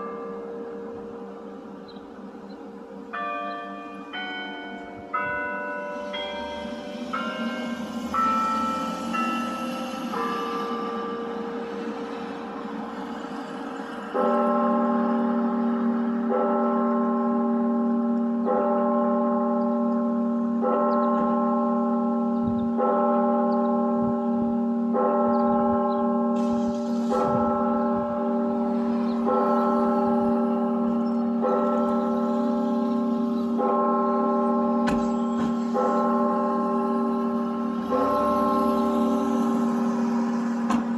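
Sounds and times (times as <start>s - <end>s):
church bell tolling over loudspeakers: 0.0s - 40.9s.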